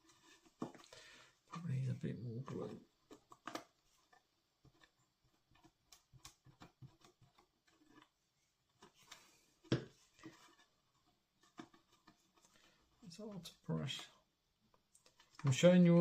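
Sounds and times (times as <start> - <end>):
paper model rustling and tapping: 0.0 - 16.0.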